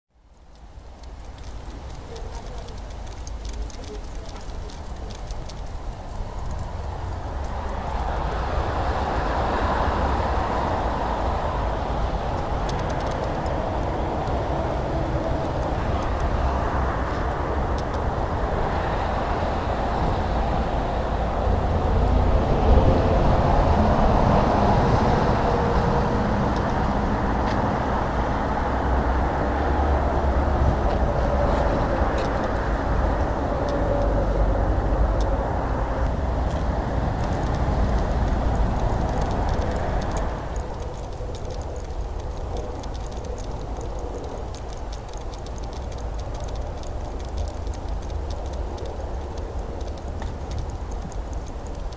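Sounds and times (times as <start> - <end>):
motorway traffic rushing: 0.2 - 51.9.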